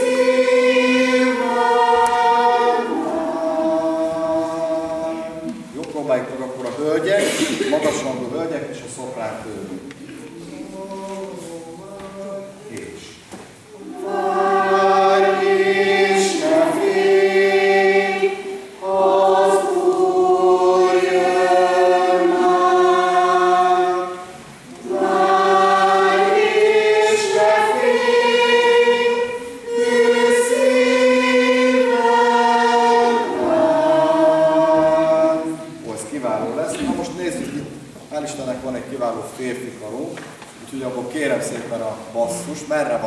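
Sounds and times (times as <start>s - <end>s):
choir singing a hymn: 0.0s - 6.4s, 7.2s - 39.1s.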